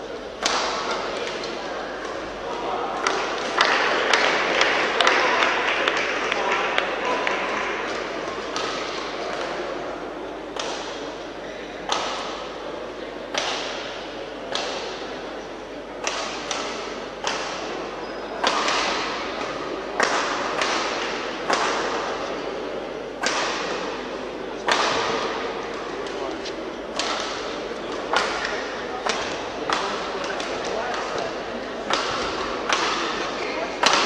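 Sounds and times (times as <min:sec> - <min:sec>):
rackets striking shuttlecock: 0:00.4 - 0:34.0.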